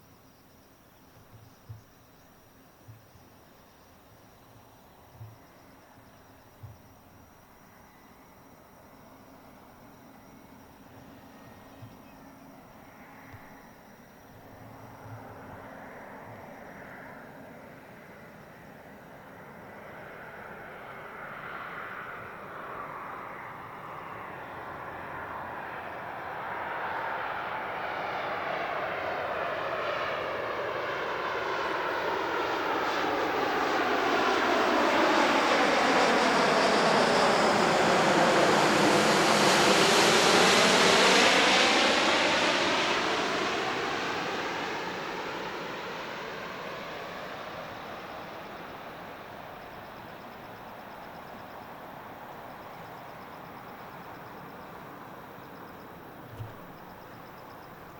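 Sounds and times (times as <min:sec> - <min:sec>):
jet airliner passing overhead: 0:09.0 - 0:57.9.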